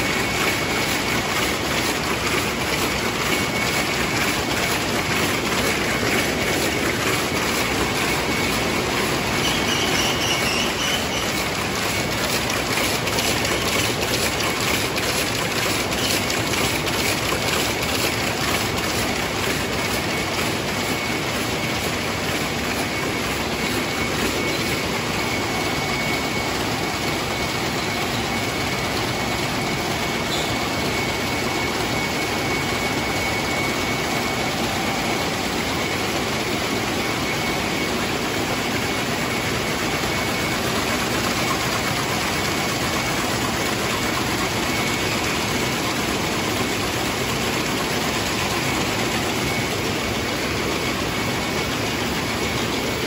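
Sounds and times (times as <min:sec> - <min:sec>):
weaving looms running: 0:00.0 - 0:53.0.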